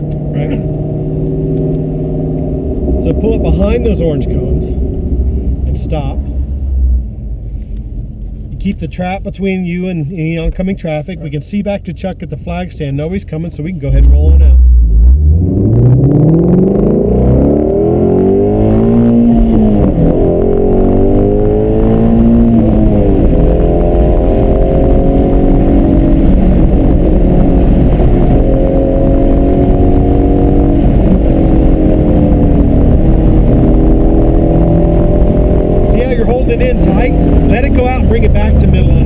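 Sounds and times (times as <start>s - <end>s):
car engine accelerating hard: 0.0s - 7.2s, 8.7s - 39.0s.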